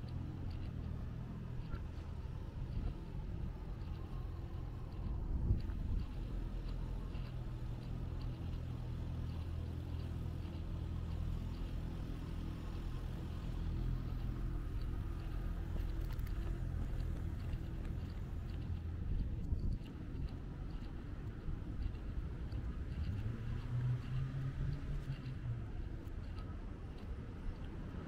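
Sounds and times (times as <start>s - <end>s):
street hum: 0.0s - 28.0s
traffic engine rumble: 0.0s - 28.0s.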